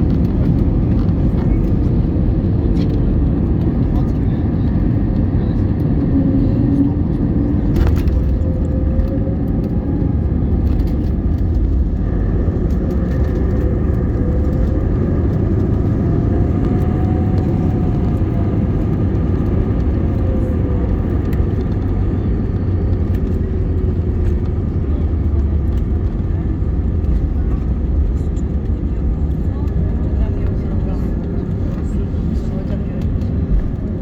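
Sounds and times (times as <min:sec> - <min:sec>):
airplane cabin rumble: 0:00.0 - 0:34.0.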